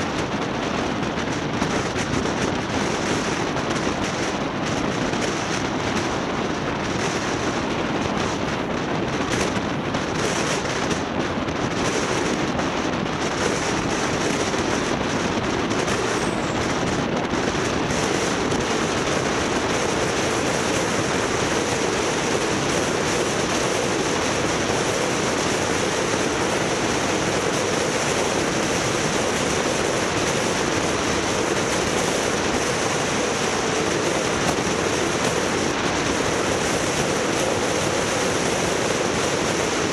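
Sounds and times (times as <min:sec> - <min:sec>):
wind and road noise from vehicle: 0:00.0 - 0:39.9.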